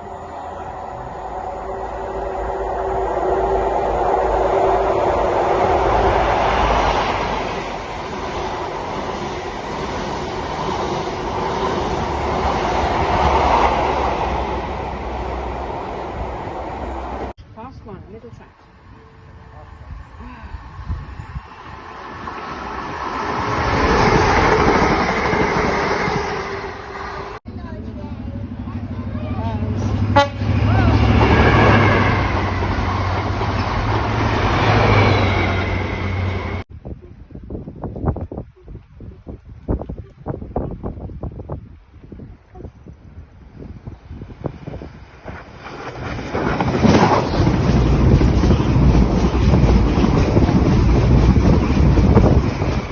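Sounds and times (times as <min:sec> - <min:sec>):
train passing on rails: 0:00.0 - 0:36.7, 0:43.0 - 0:52.9.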